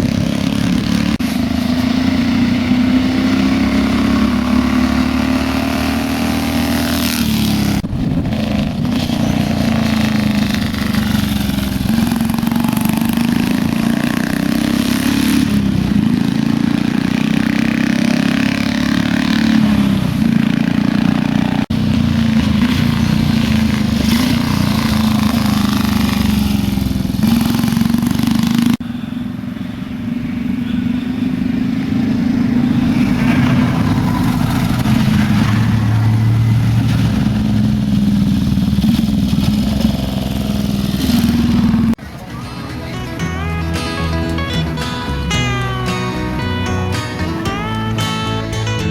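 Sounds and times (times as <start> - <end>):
motorcycle engine with straight pipes: 0.0 - 48.9.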